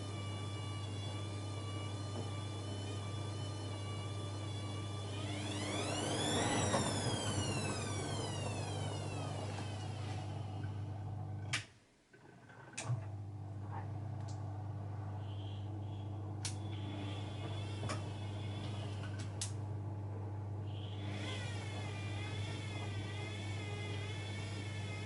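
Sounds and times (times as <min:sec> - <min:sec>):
washing machine motor whining: 0:00.0 - 0:11.6, 0:12.2 - 0:25.0.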